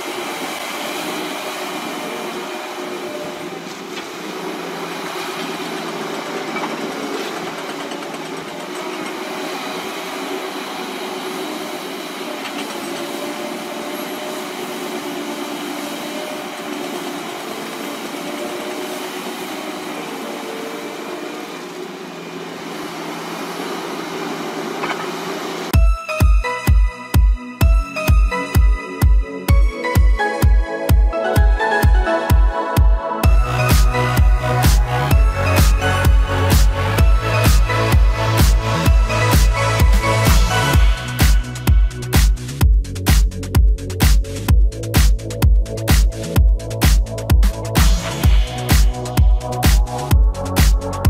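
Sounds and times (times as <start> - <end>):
heavy vehicle engine running: 0.0 - 25.8, 33.2 - 51.0.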